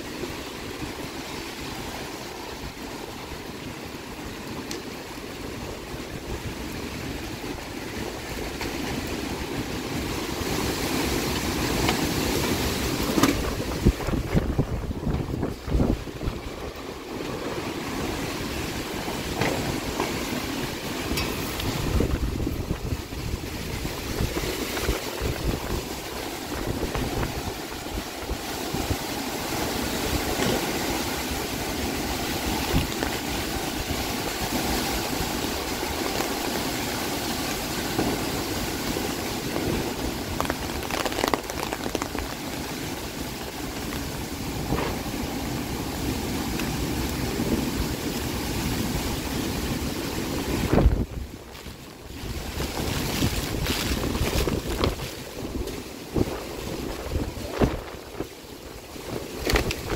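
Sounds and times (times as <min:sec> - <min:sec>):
steady rushing noise: 0:00.0 - 0:59.9
strong wind gusting on microphone: 0:00.0 - 0:59.9.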